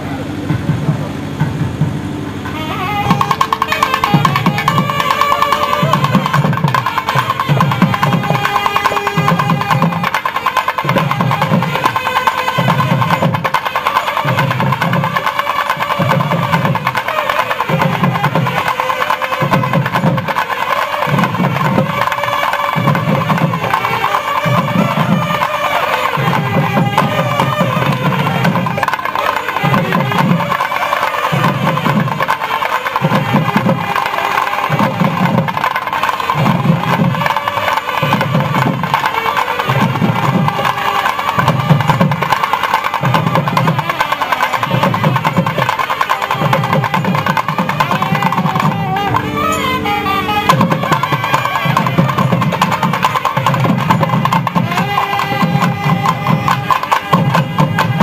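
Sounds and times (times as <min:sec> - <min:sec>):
low drum beats: 0:00.0 - 0:58.0
double-reed pipes playing melody: 0:02.4 - 0:58.0.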